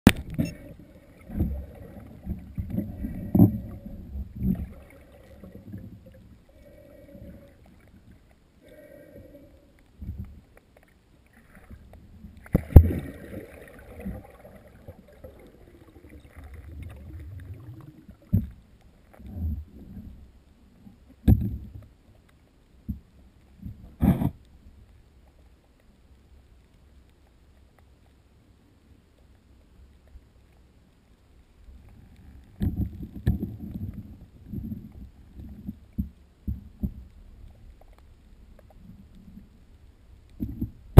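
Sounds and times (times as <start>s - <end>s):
underwater water movement: 0.0s - 40.9s.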